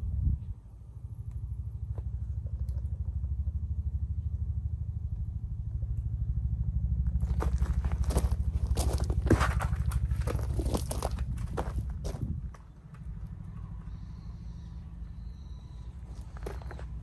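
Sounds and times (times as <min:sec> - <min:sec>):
low pulsing engine-like rumble: 0:00.0 - 0:17.0.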